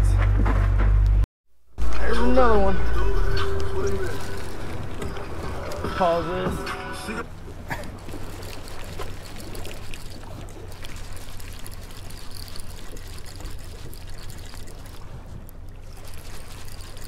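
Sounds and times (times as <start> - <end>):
boat engine hum: 1.8 - 17.0
water rushing along boat hull: 1.8 - 17.0.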